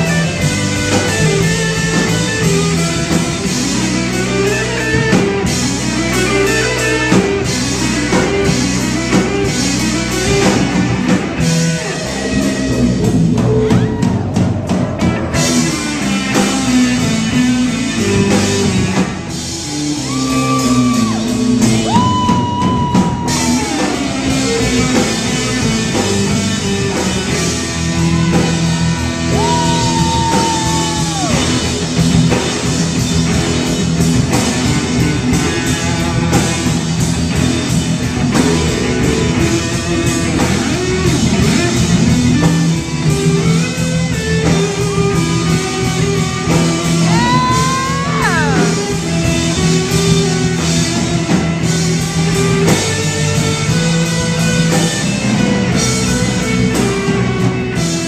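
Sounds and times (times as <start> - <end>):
lead guitar bending long notes: 0.0 - 58.0
rock band playing: 0.0 - 58.0.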